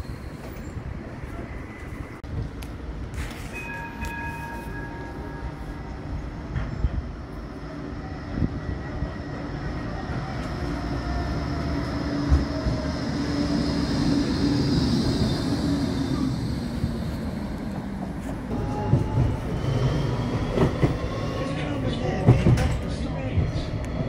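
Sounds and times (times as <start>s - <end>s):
tram braking to a halt: 0.0s - 24.0s.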